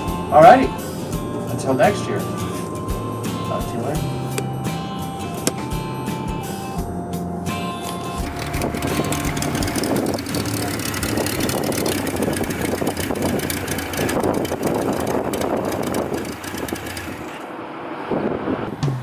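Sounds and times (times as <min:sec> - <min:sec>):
motorcycle engines droning: 0:00.0 - 0:17.7.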